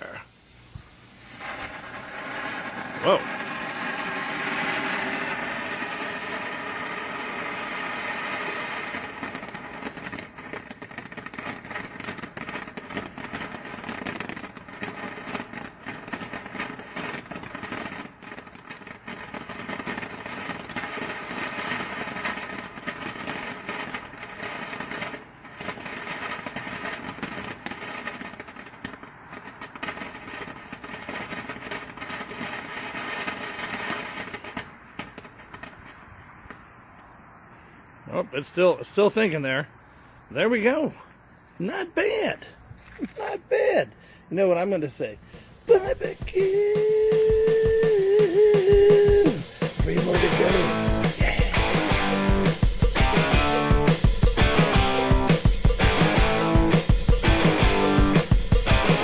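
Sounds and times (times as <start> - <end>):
firework fountain hissing and crackling: 0.0 - 59.0.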